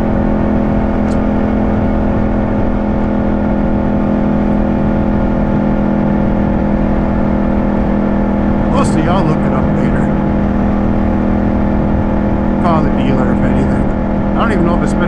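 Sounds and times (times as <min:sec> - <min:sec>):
low rumbling wind noise: 0:00.0 - 0:15.0
motorcycle engine cruising: 0:00.0 - 0:15.0.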